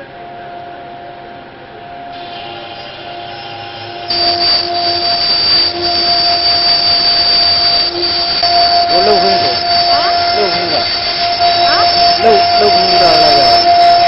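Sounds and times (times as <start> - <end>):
high whine: 0.0 - 14.0
wood router spindles whining: 2.1 - 14.0.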